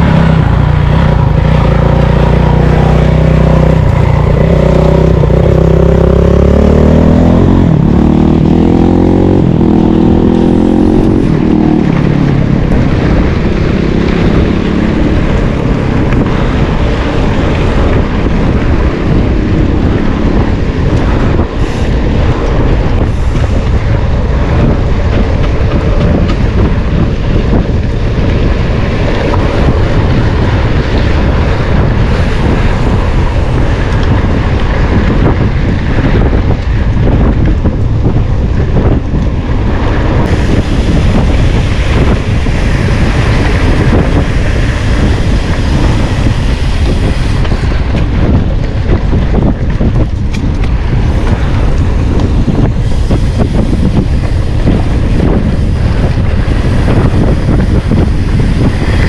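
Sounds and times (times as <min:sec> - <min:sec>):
wind buffeting microphone: 0:00.0 - 0:59.0
mountain bike rattling on trail: 0:08.4 - 0:59.0.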